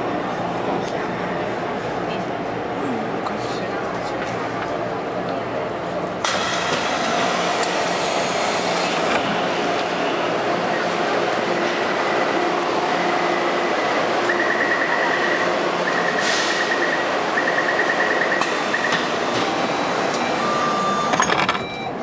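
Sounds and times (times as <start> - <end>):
train rolling noise: 0.0 - 22.0.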